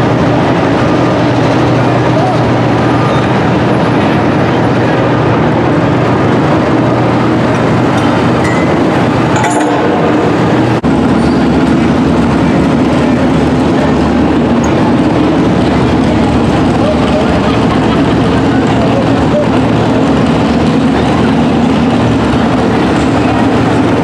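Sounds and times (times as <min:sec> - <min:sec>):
loud vehicle engines: 0:00.0 - 0:24.0.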